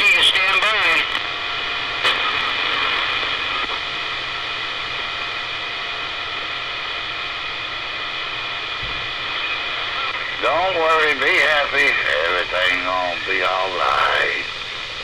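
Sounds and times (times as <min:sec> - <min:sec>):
faint steady tones: 0:00.0 - 0:15.0
radio static hiss: 0:00.0 - 0:15.0.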